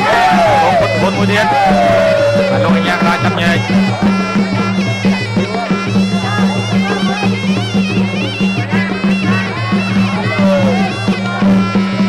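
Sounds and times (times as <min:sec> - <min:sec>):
reed oboe melody: 0:00.0 - 0:12.0.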